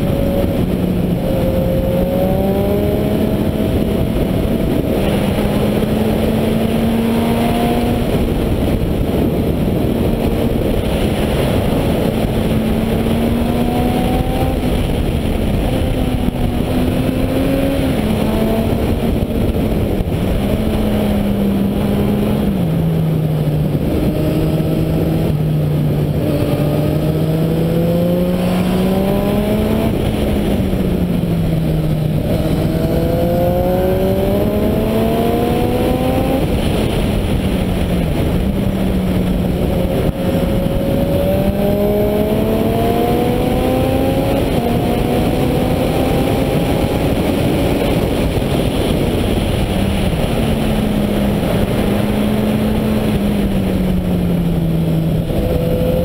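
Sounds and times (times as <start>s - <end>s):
motorcycle engine accelerating: 0.0s - 56.0s
wind rush: 0.0s - 56.0s.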